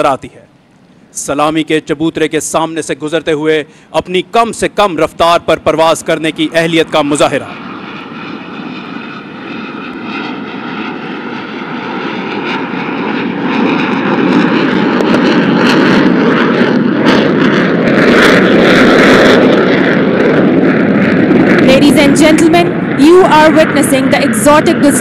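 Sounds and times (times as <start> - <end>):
jet engine roaring: 0.0 - 25.0.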